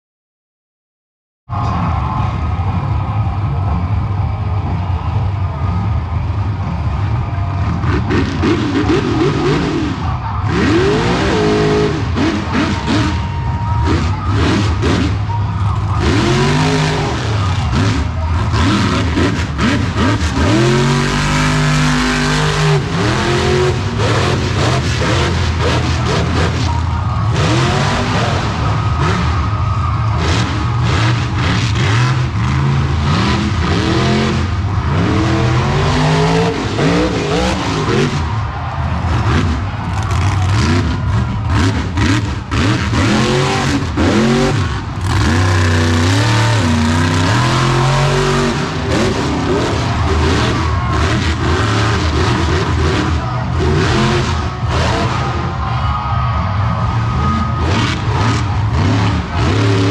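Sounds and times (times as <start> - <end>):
truck engine revving: 1.5 - 59.9.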